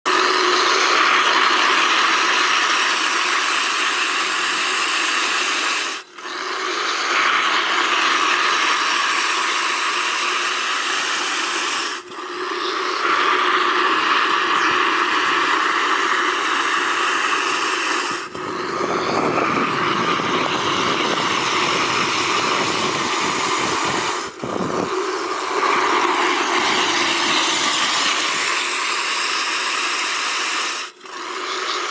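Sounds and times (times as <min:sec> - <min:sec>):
water jet spouting and splashing: 0:00.1 - 0:31.9.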